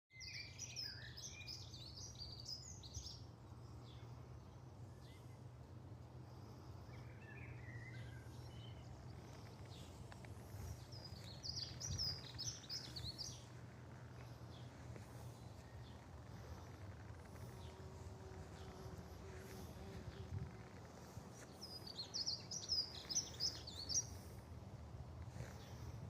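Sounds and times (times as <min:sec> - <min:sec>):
small songbird chirping: 0:00.1 - 0:05.4, 0:06.2 - 0:24.6
low background hum: 0:01.2 - 0:26.0.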